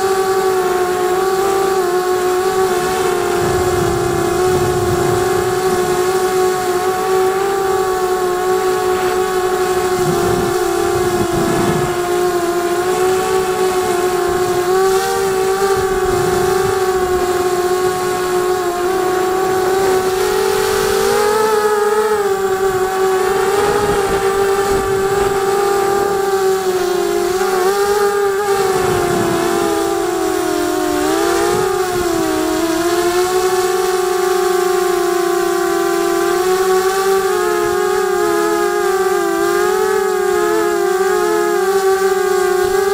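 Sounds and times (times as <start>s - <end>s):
quadcopter motors whining: 0.0s - 42.9s
wind rumble on microphone: 0.0s - 42.9s.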